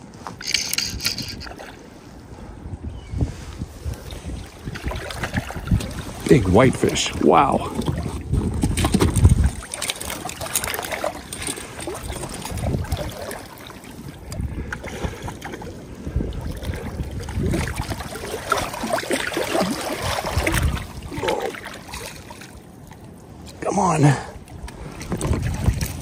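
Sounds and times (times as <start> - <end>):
wind buffeting microphone: 0.0 - 22.4, 24.3 - 26.0
river water moving around boat: 0.0 - 26.0.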